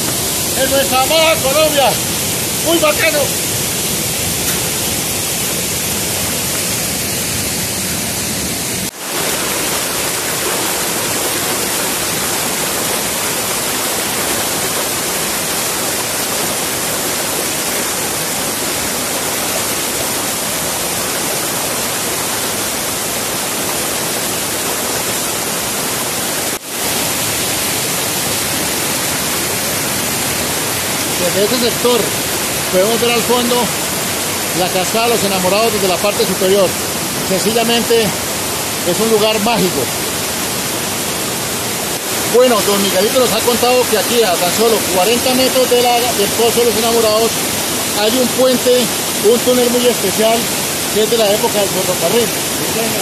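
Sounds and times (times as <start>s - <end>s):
waterfall pouring over rock: 0.0s - 53.0s.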